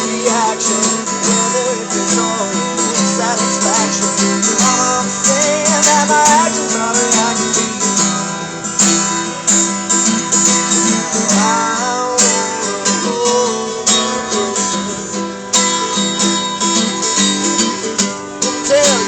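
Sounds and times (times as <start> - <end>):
person singing: 0.0 - 9.0, 10.6 - 19.0
sliding melody line: 0.0 - 19.0
strummed acoustic guitar: 0.0 - 19.0.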